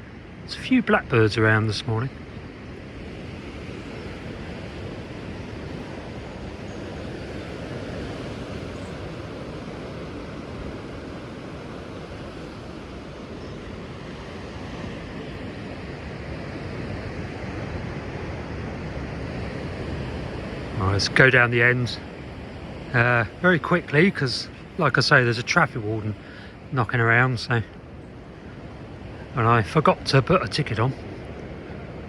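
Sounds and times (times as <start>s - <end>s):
surf from rough sea: 0.0s - 32.0s.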